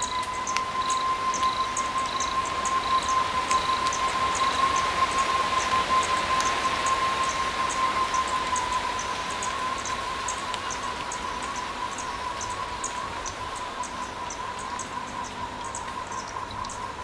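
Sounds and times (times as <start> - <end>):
constant high whine: 0.0 - 17.0
crickets chirping: 0.0 - 17.0.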